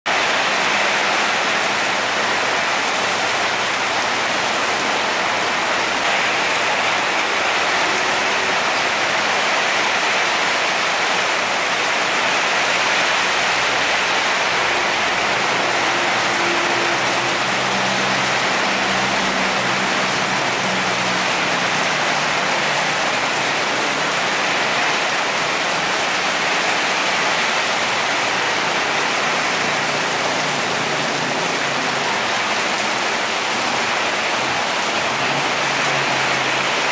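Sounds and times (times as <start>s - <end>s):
heavy rain pouring: 0.0s - 36.9s.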